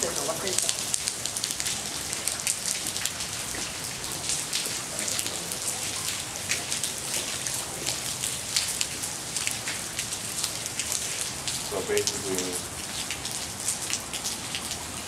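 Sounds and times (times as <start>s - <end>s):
rain falling on wet paving: 0.0s - 15.0s.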